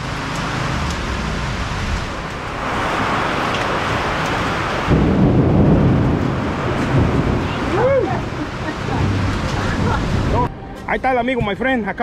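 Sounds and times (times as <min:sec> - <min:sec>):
low buffeting rumble: 0:00.7 - 0:12.0.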